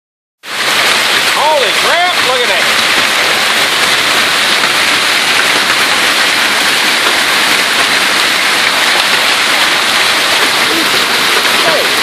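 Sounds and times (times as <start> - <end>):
hail and heavy rain: 0.4 - 12.0.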